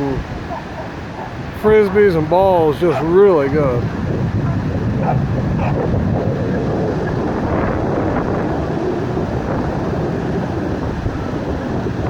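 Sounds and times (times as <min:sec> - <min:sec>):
ocean surf washing: 0:00.0 - 0:12.0
wind rumbling on microphone: 0:00.0 - 0:12.0.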